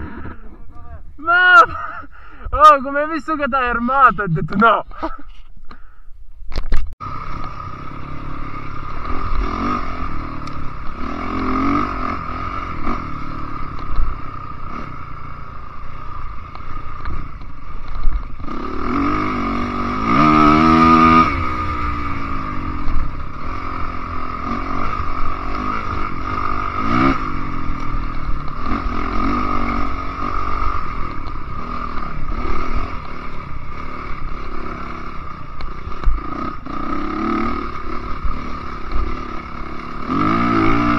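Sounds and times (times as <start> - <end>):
dirt bike engine revving: 7.0 - 40.9.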